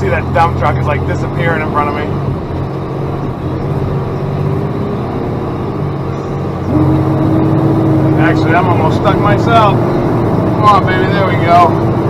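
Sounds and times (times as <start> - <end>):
diesel truck engine running: 0.0 - 12.0
steady whine: 0.5 - 11.8.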